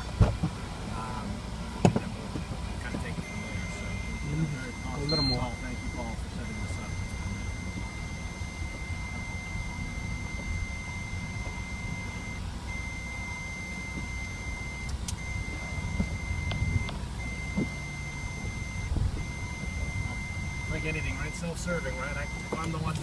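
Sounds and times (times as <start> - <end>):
low rumble of vehicles: 0.0 - 23.0
high-pitched electronic beep: 3.2 - 22.9.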